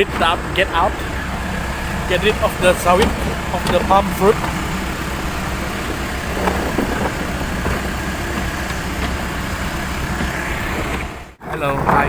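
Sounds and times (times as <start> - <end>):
heavy machinery droning: 0.0 - 12.0.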